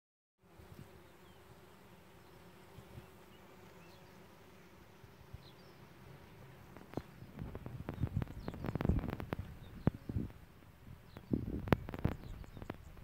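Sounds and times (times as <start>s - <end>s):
bees buzzing: 0.4s - 13.0s.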